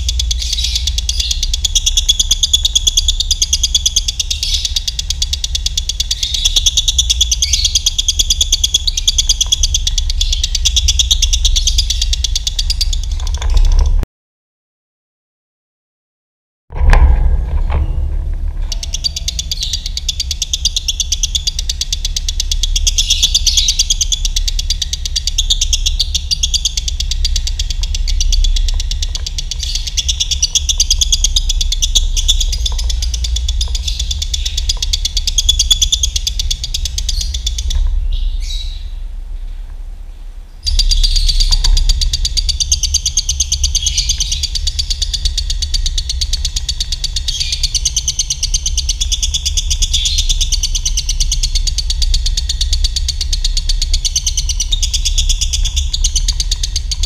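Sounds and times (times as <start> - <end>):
lovebird chattering trill: 0.0 - 13.8, 18.6 - 39.1, 40.6 - 57.0
low hum: 0.0 - 14.0, 16.7 - 57.0.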